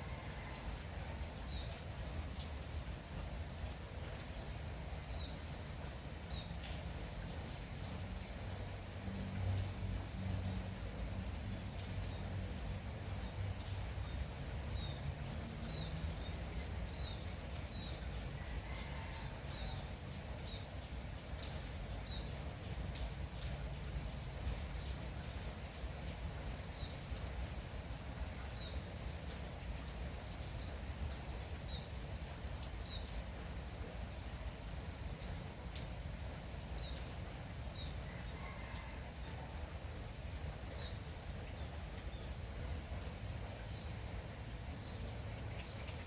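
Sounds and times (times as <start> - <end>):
light rain: 0.0 - 46.0
water drips: 0.0 - 46.0.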